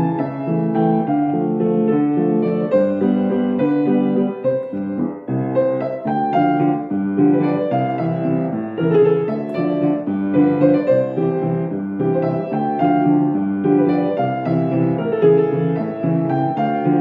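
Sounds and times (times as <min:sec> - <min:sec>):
grand piano playing chords and melody: 0:00.0 - 0:17.0.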